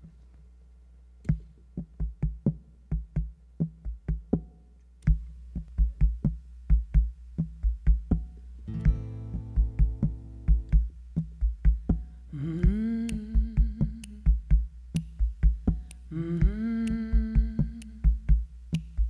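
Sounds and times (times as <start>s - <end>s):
sparse percussion beat: 1.3s - 19.0s.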